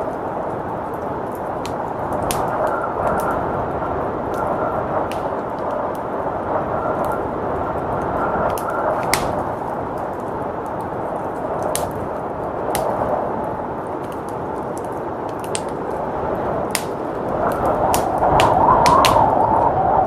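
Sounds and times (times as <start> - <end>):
blizzard wind rushing: 0.0 - 20.0
wood fire crackling: 0.0 - 20.0.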